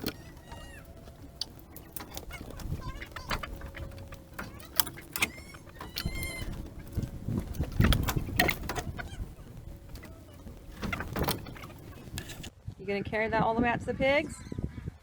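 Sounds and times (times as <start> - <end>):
knocks and clicks: 0.0 - 12.5
wind rumbling on microphone: 0.0 - 15.0.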